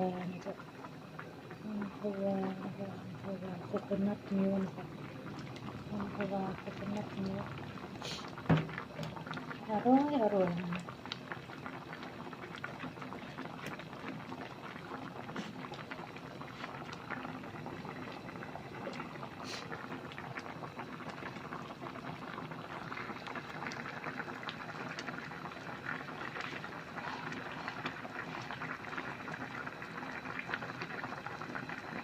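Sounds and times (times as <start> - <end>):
curry bubbling in a pot: 0.0 - 32.0.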